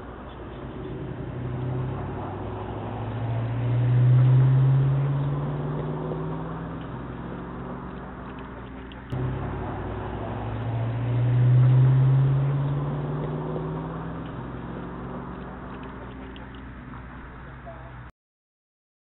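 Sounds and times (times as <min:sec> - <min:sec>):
vehicle engine hum: 0:00.0 - 0:18.1.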